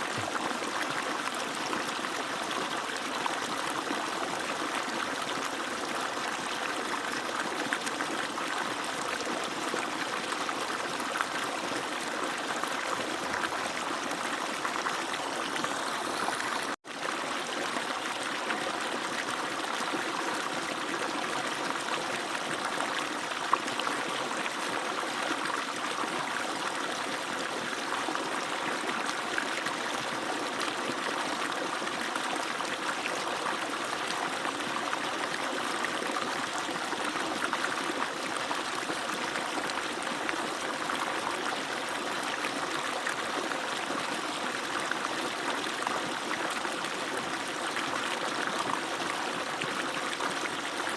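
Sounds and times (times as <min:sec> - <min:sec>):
water gushing from pump pipe: 0:00.0 - 0:50.9.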